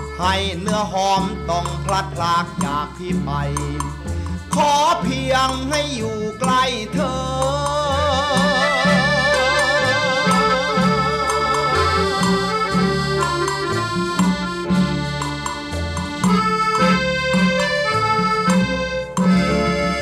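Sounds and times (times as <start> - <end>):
band playing folk pop music: 0.0 - 20.0.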